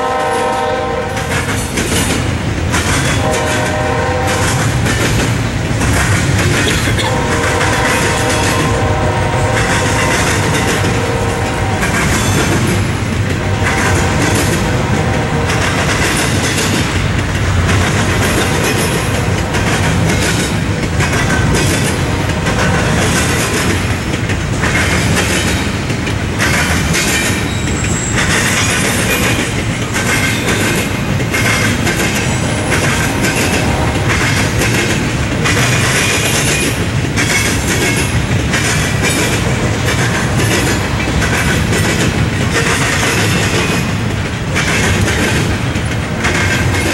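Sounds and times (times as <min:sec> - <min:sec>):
freight train rumble: 0:00.0 - 0:46.9
wheels clacking over rail joints: 0:00.1 - 0:46.9.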